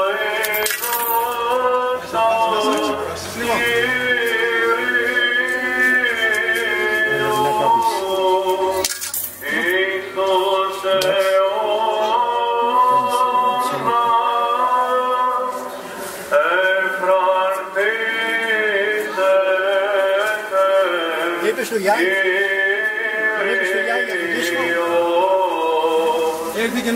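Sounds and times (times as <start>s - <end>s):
man chanting unaccompanied: 0.0s - 8.8s, 9.4s - 26.9s.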